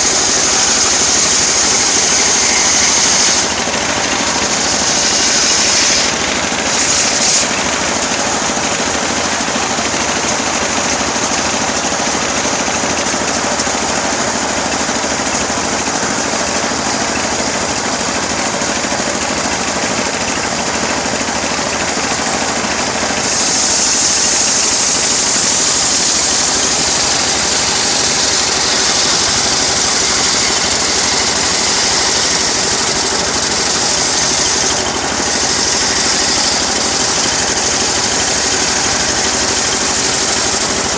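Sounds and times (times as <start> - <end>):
engine-driven saw cutting wood: 0.0 - 40.9.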